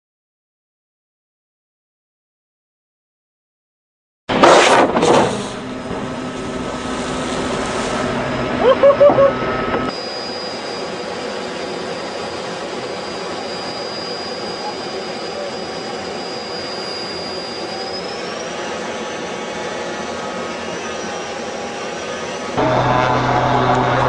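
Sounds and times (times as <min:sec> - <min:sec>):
turbine aircraft engine drone: 0:04.3 - 0:24.0.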